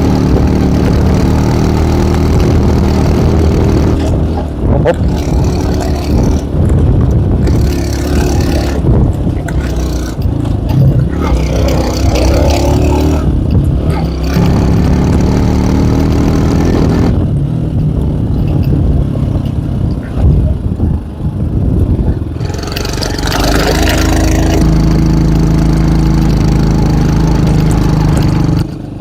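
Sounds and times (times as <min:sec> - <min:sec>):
motorcycle engine pulling uphill: 0:00.0 - 0:29.0
wind rush on microphone: 0:00.0 - 0:29.0.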